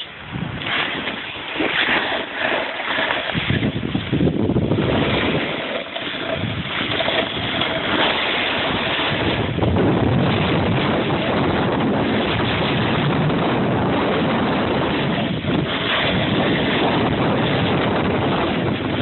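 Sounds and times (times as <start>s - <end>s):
snowboard sliding on snow: 0.0s - 19.0s
wind on microphone: 0.0s - 19.0s.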